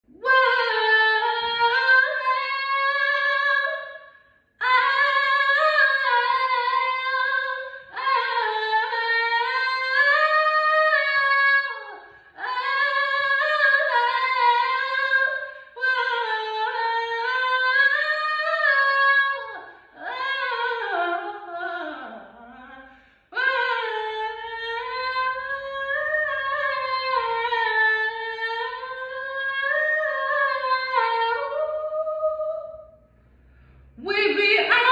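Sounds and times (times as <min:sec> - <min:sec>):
woman singing unaccompanied: 0:00.1 - 0:04.0, 0:04.6 - 0:32.8, 0:34.0 - 0:34.9.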